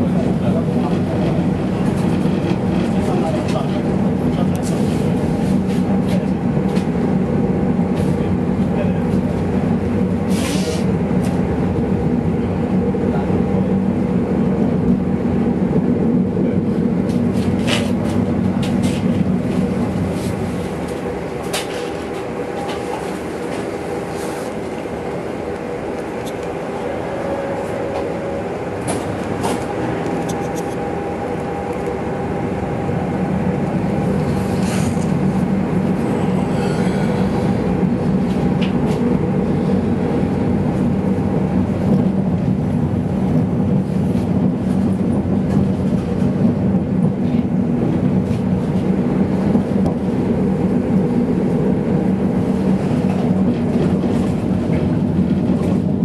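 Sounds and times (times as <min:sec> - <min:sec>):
tram electric motor hum: 0:00.0 - 0:56.0.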